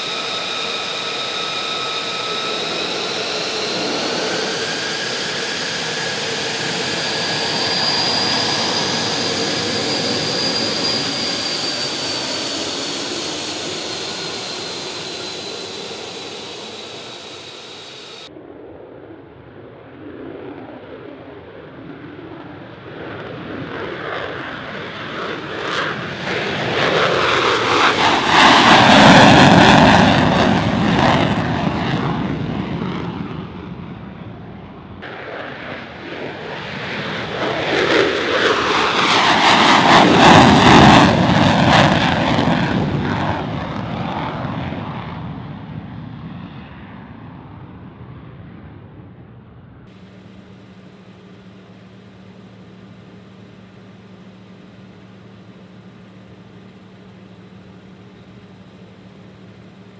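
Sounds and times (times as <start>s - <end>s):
jet engine in afterburner passing: 0.0s - 59.9s.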